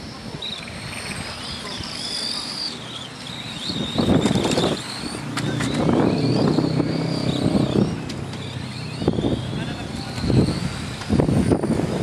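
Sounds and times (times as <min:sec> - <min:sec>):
rc cars whining past: 0:00.0 - 0:12.0.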